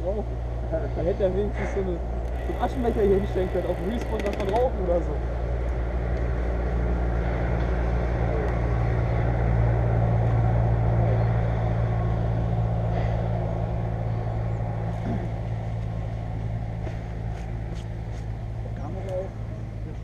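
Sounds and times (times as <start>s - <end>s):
motor engine humming: 0.0s - 20.0s.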